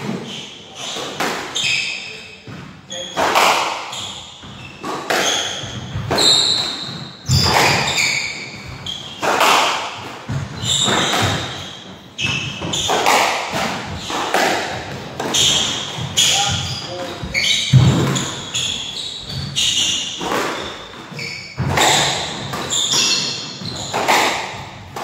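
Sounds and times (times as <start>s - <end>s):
shoes squeaking on wooden floor: 0.0s - 25.0s
squash ball hitting racquets and walls: 0.0s - 25.0s.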